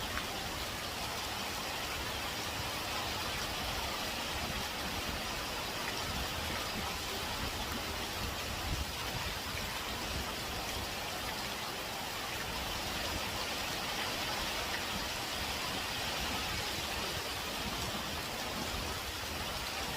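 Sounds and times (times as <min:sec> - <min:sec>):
heavy rain pouring: 0:00.0 - 0:19.9.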